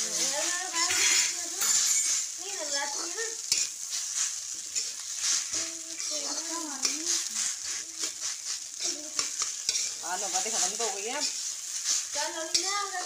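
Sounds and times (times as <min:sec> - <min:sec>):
metal spatula scraping a pan: 0:00.0 - 0:13.0
oil sizzling: 0:00.0 - 0:13.0.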